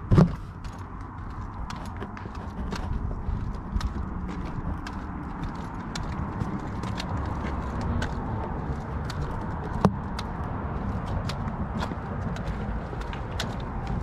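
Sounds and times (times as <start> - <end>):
footsteps walking: 0.0 - 14.0.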